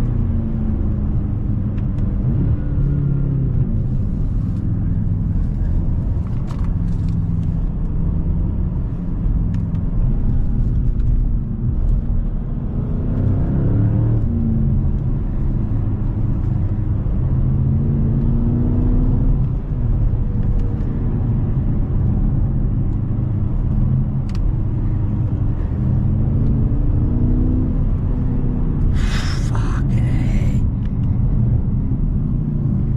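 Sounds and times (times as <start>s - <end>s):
car engine drone from cabin: 0.0s - 32.9s.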